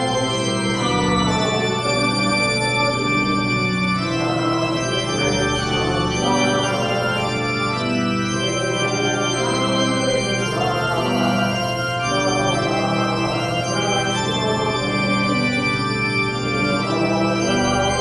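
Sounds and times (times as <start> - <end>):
organ playing chords: 0.0 - 18.0.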